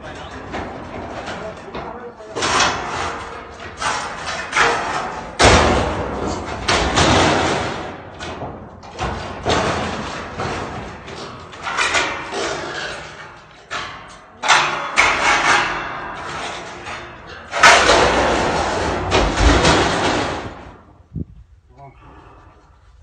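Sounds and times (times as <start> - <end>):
bangs and thuds of roof sheets: 0.0 - 21.1.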